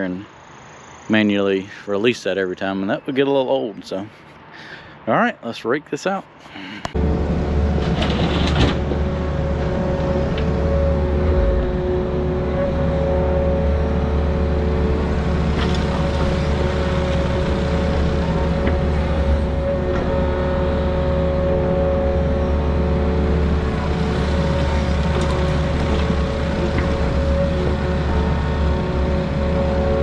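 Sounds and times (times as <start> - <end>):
excavator diesel engine with whine: 0.0 - 5.4, 6.4 - 30.0.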